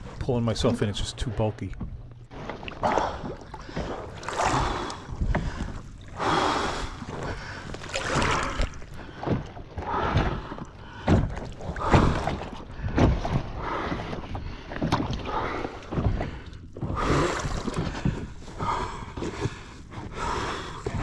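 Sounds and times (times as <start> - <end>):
water splashing against kayak: 0.0 - 21.0.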